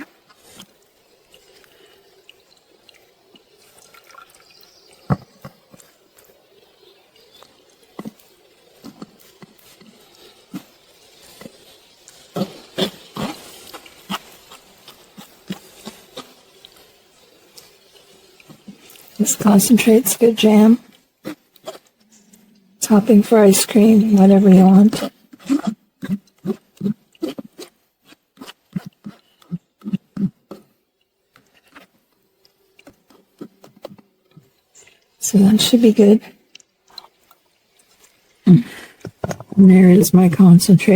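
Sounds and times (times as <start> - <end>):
wet squishes: 0.0 - 19.2, 20.8 - 22.6, 24.8 - 35.2, 36.5 - 39.2
juice dripping into liquid: 0.0 - 23.2, 23.8 - 35.6, 36.2 - 39.5.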